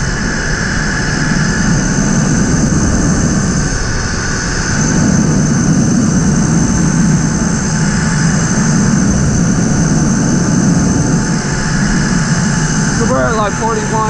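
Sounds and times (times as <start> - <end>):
road noise: 0.0 - 14.0
rush of wind: 0.0 - 14.0.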